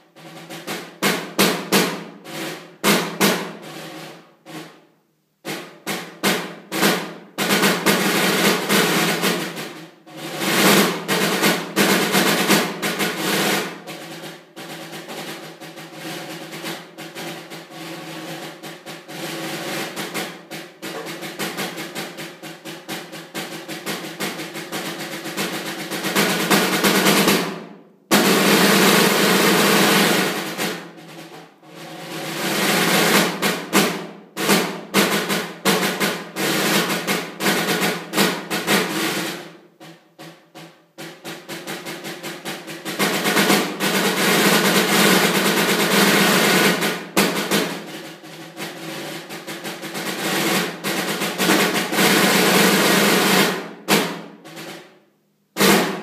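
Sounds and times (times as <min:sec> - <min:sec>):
snare drum rolls and strokes: 0:00.0 - 0:56.0.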